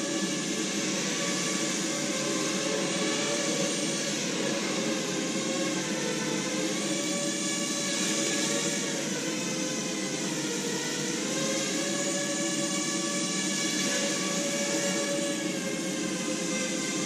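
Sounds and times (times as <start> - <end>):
quadcopter propellers buzzing: 0.0 - 17.0.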